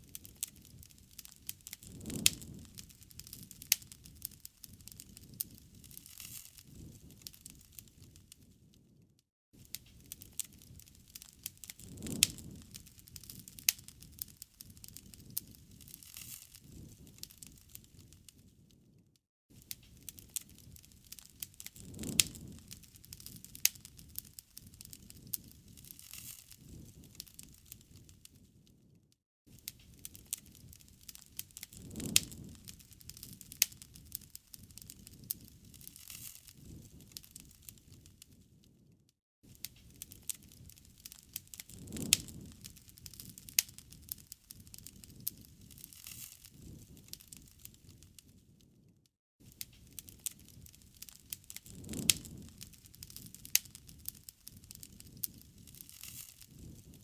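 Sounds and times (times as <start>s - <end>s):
campfire crackling and popping: 0.0s - 9.0s, 9.6s - 28.7s, 29.5s - 38.9s, 39.5s - 57.0s
low rush of flame: 0.0s - 9.0s, 9.6s - 19.0s, 19.6s - 28.7s, 29.5s - 38.9s, 39.5s - 57.0s.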